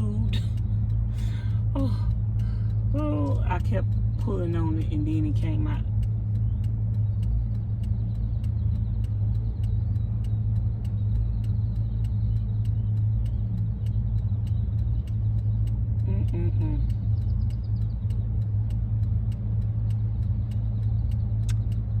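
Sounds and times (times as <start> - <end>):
road noise: 0.0 - 22.0
van engine rumble from inside: 0.0 - 22.0.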